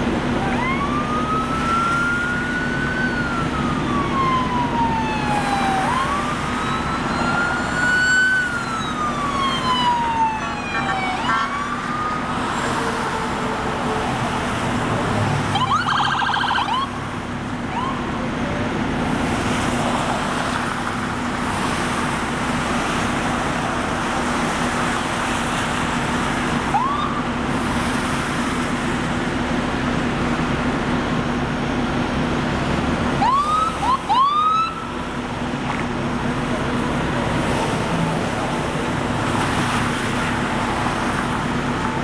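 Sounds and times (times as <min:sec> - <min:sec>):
police sirens: 0:00.0 - 0:27.8, 0:28.5 - 0:42.0
highway traffic: 0:00.0 - 0:42.0.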